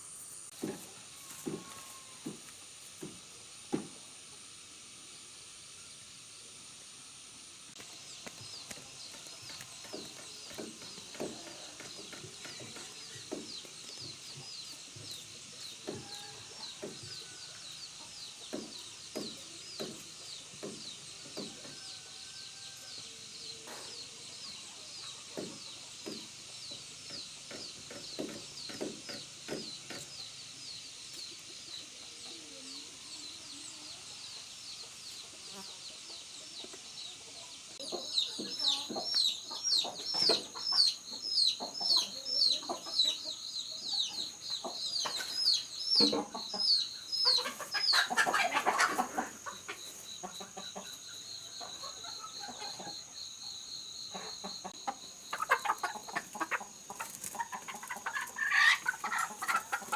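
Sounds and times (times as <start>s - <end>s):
chickens clucking: 7.7s - 59.9s.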